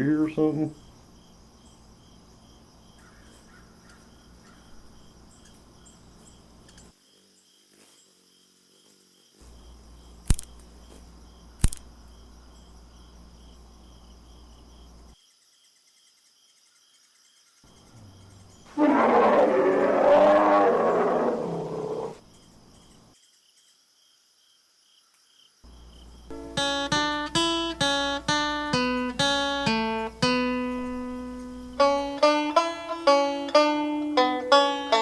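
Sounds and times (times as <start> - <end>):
crickets chirping: 0.0 - 33.4.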